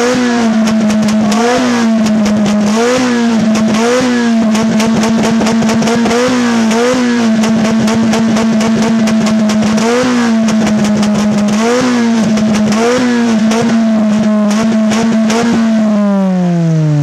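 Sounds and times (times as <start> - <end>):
exhaust pops and crackles: 0.0 - 16.0
car engine at high revs: 0.0 - 17.0.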